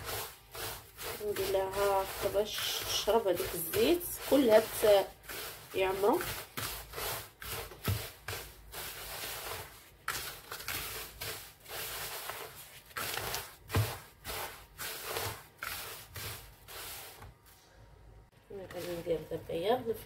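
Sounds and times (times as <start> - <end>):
hand rubbing grains in plastic bowl: 0.0 - 17.6, 18.7 - 19.6.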